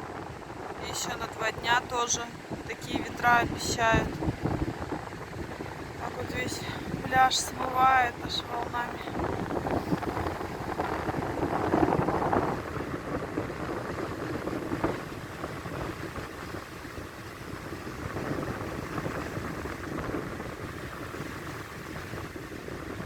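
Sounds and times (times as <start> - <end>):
storm surf breaking on beach: 0.0 - 23.0.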